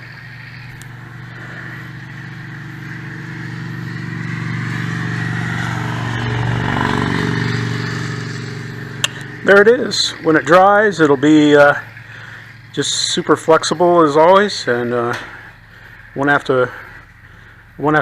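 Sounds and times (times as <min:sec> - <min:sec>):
vehicle engine passing by: 0:00.0 - 0:18.0.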